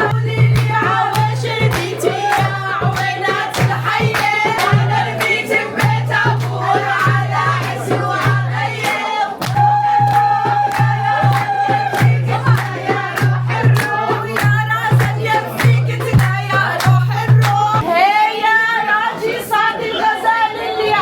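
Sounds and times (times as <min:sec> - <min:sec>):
hand claps: 0:00.0 - 0:17.8
steady drum beats: 0:00.0 - 0:17.9
group singing: 0:00.0 - 0:21.0.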